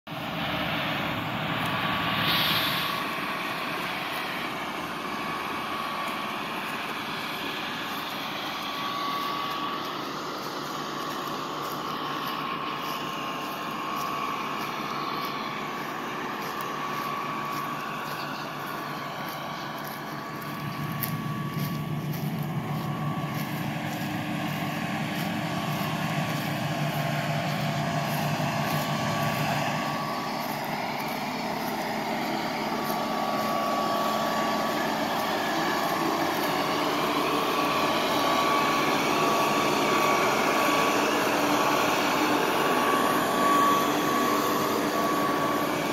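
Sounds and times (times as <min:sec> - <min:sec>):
diesel engine running: 0:00.1 - 0:45.9
thin steady whine: 0:00.1 - 0:45.9.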